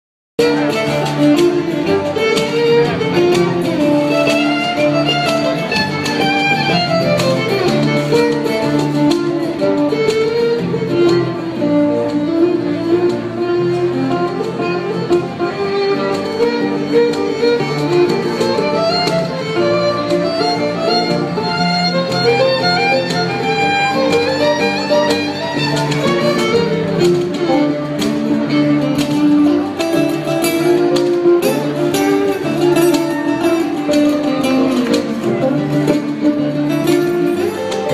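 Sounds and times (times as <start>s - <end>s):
fiddle melody: 0.4s - 37.9s
strummed acoustic guitar: 0.4s - 37.9s
upright bass: 0.4s - 37.9s.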